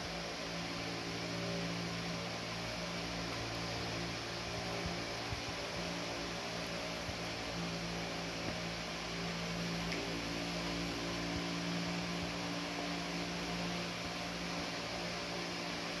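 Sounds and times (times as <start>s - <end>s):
fan humming and hissing: 0.0s - 16.0s.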